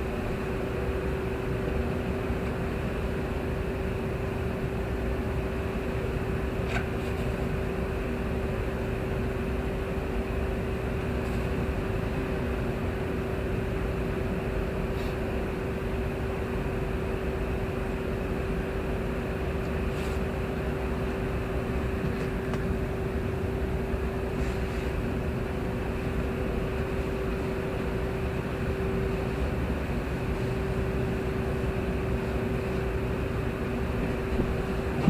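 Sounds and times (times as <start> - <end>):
mechanical hum: 0.0 - 35.0.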